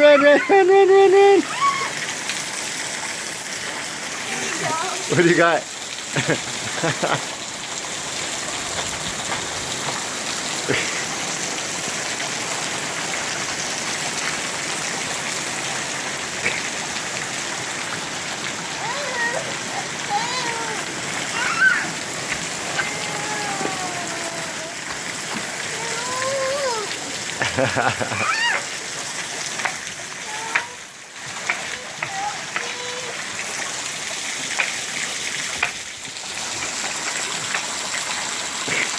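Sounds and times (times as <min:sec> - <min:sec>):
hail falling hard: 0:00.0 - 0:38.9
hailstones clicking: 0:01.2 - 0:38.9.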